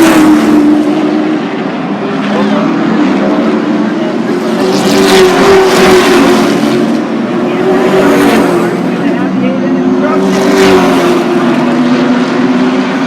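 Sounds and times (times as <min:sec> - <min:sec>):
racing truck engines: 0:00.0 - 0:13.0.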